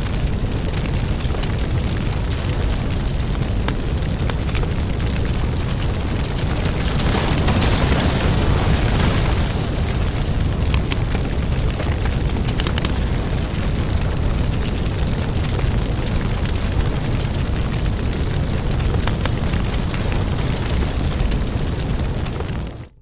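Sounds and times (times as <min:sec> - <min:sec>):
fire crackling in fireplace: 0:00.0 - 0:23.0.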